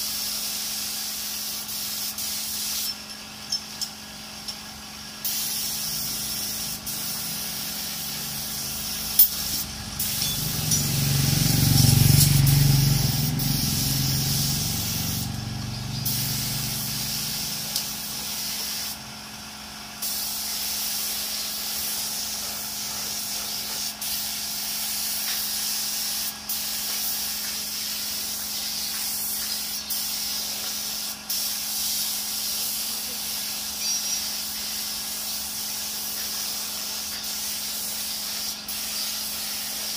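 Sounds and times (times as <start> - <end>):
air spray gun hissing: 0.0 - 39.9.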